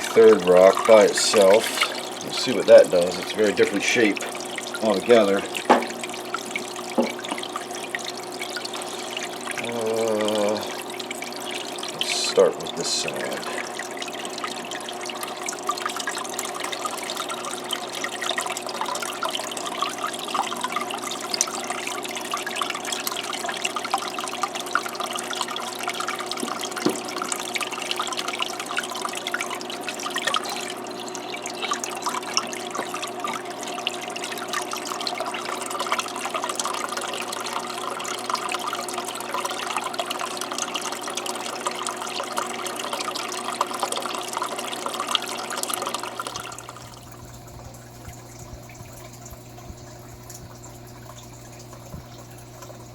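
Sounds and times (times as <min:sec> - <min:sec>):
water trickling and splashing: 0:00.0 - 0:52.9.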